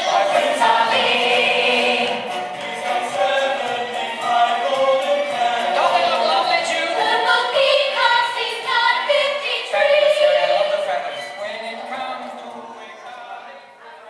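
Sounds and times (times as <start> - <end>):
choir singing with musical backing: 0.0 - 14.0.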